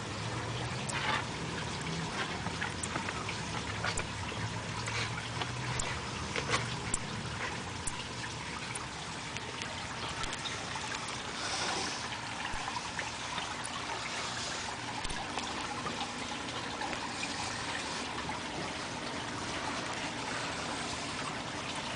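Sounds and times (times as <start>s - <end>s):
water trickling: 0.0s - 21.9s.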